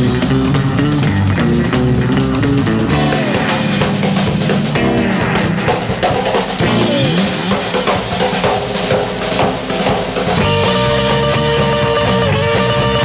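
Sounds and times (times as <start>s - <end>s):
sliding guitar notes: 0.0s - 7.9s, 10.4s - 13.0s
drums: 0.0s - 13.0s
held guitar chords: 0.0s - 13.0s.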